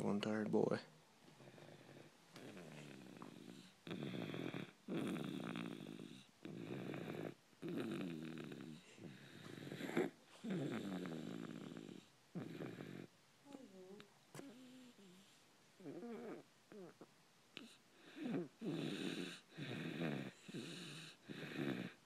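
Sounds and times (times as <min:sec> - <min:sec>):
buzzing snoring: 0:01.4 - 0:13.1, 0:14.4 - 0:17.0, 0:17.6 - 0:22.0.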